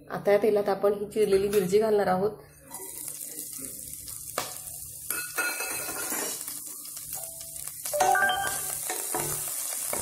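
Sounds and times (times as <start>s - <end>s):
chillies sizzling in hot oil: 1.4s - 10.0s.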